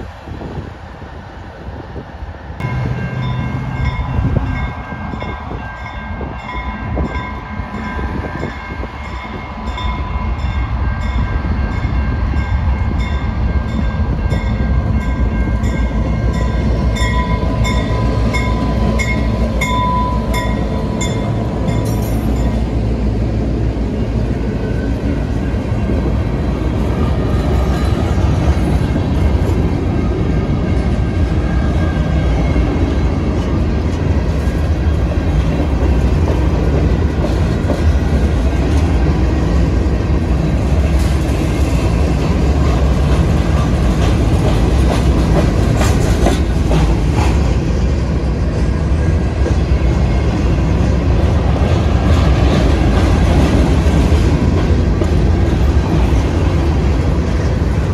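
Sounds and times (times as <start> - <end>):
freight train wheels clacking: 11.2 - 57.9.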